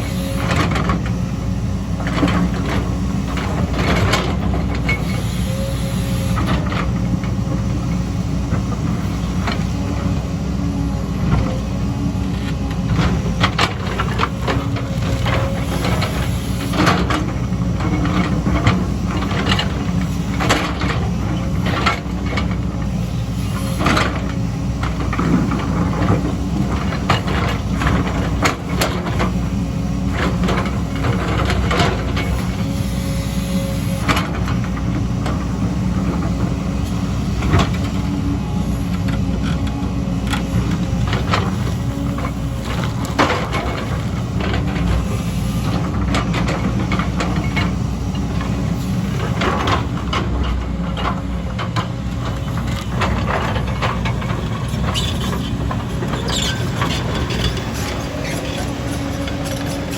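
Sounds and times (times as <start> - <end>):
heavy machine engine running: 0.0 - 59.9.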